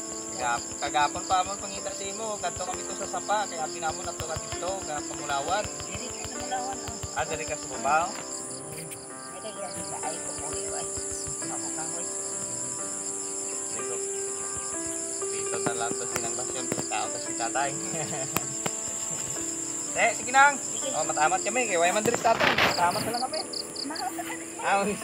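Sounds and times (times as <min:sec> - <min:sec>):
insects droning and chirping: 0:00.0 - 0:25.0
soft melodic tones: 0:00.0 - 0:25.0.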